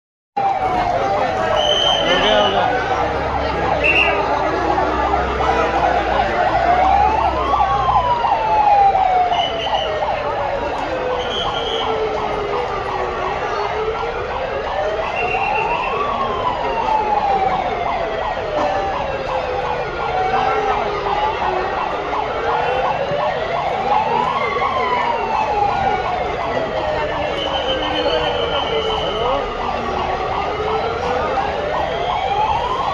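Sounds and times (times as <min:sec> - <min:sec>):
dense background noise: 0:00.4 - 0:32.9
siren wailing: 0:00.4 - 0:32.9.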